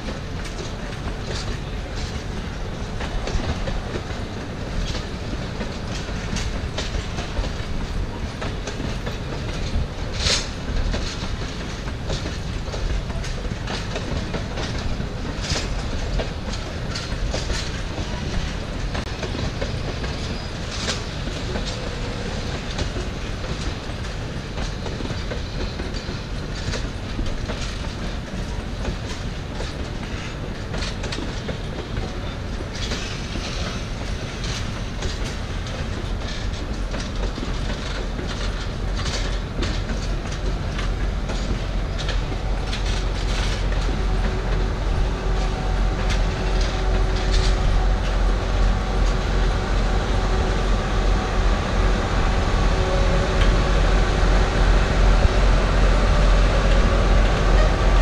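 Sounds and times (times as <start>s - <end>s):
locomotive engine hum: 0.0s - 58.0s
train wheels clicking over rail joints: 0.0s - 58.0s.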